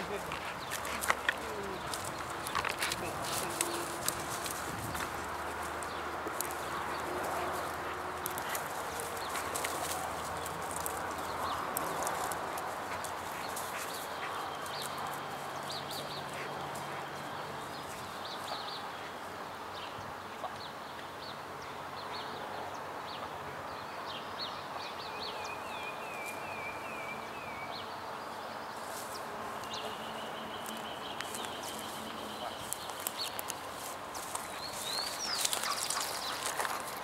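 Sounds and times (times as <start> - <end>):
birds chirping and calling: 0.0 - 19.3, 24.6 - 37.0
steady outdoor hiss: 0.0 - 37.0.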